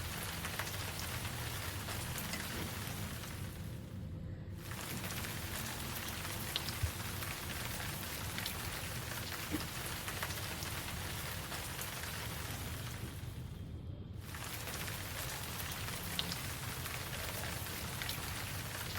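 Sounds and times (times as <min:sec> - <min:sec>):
raindrops ticking: 0:00.0 - 0:03.8, 0:04.6 - 0:13.4, 0:14.2 - 0:18.9
steady rain hiss: 0:00.0 - 0:13.6, 0:14.2 - 0:18.9.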